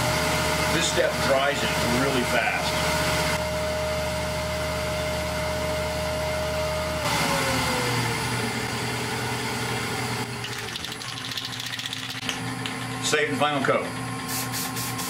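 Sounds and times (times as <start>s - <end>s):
wood lathe whining and spinning down: 0.0s - 12.1s.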